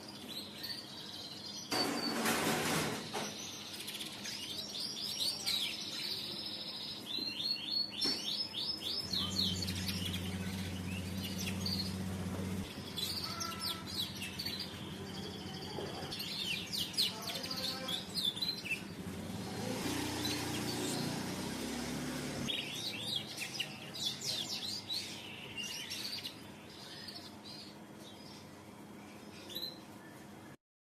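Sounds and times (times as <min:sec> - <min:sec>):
canary singing in trills: 0:00.0 - 0:30.6.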